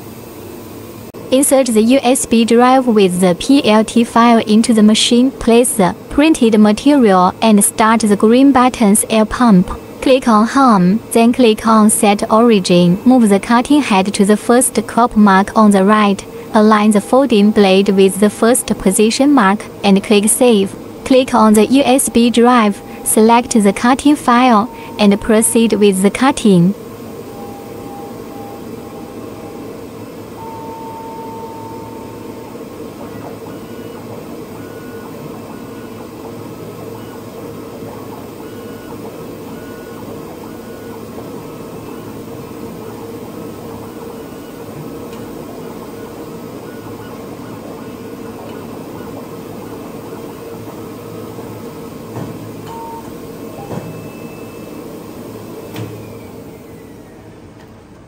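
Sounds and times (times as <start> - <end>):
vacuum air pump hum: 0.0 - 58.0.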